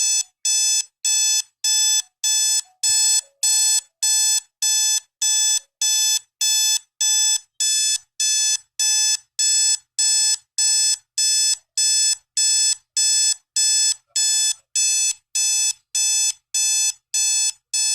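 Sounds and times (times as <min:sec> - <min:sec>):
alarm clock beeping: 0:00.0 - 0:17.9.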